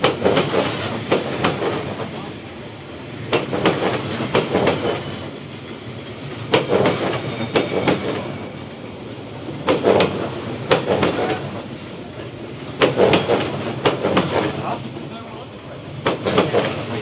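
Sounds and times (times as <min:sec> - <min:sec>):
train rumble: 0:00.0 - 0:17.0
train wheels clattering over rails: 0:00.0 - 0:17.0.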